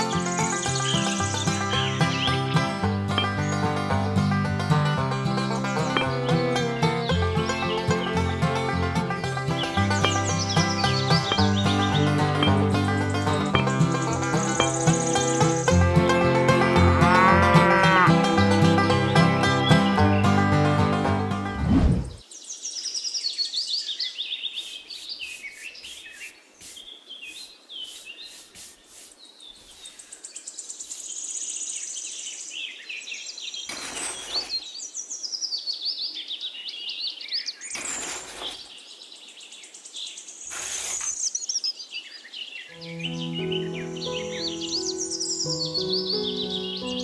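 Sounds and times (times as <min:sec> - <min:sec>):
small birds chirping: 0:00.0 - 0:17.2, 0:18.6 - 0:20.6, 0:22.0 - 0:47.0.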